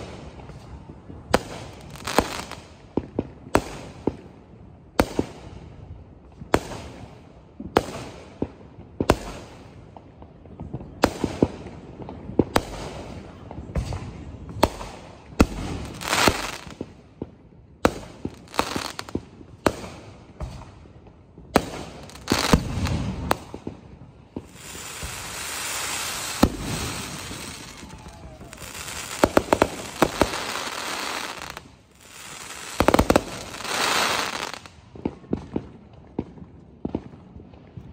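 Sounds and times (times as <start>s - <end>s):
fireworks crackling: 0.0s - 4.3s, 9.0s - 36.4s
fireworks bangs: 6.4s - 37.9s.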